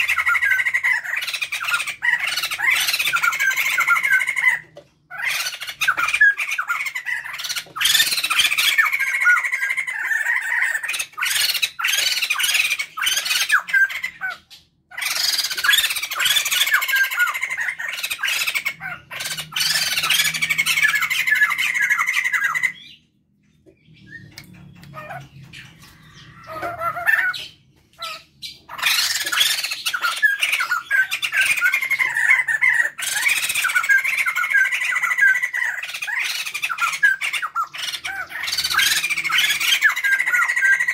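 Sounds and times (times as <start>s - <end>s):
laughingthrushes raucous chattering: 0.0s - 23.0s, 23.8s - 40.9s.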